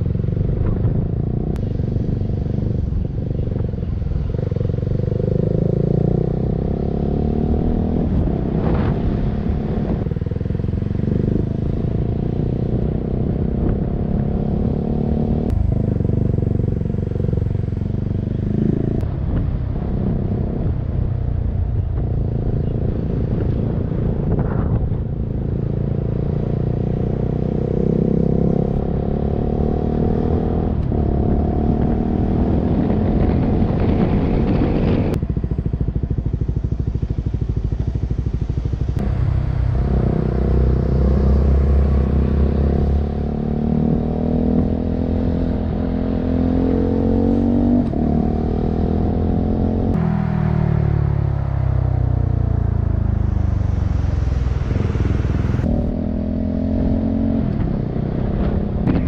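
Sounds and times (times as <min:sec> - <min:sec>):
motorcycle engine running: 0:00.0 - 0:29.5, 0:30.6 - 0:59.0.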